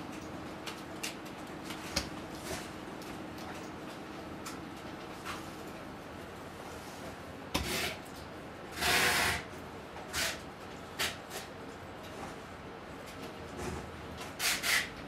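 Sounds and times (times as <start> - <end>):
computer fan noise: 0.0 - 15.0.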